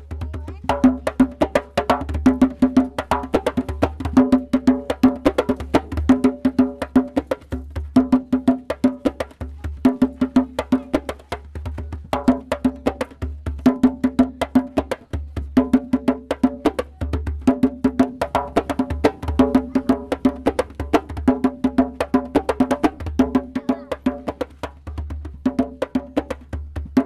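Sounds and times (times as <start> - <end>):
percussion-led music: 0.0 - 27.0.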